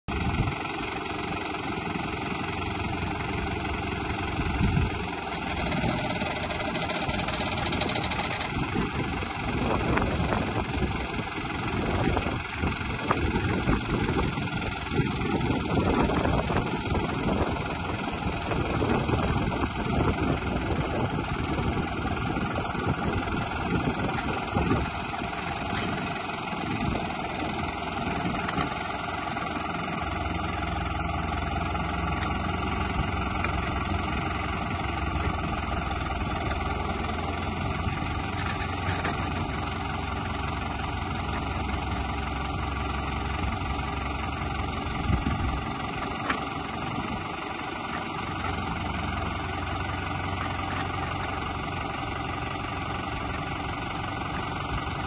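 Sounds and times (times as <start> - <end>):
tractor diesel engine running: 0.1 - 55.0.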